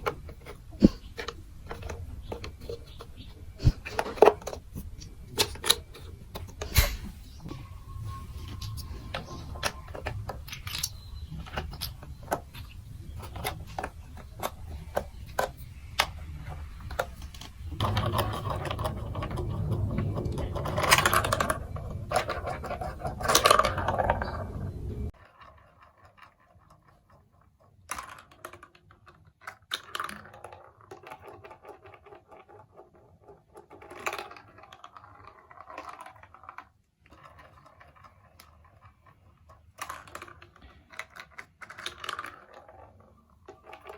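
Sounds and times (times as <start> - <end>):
marbles clicking and rattling: 7.5 - 43.9.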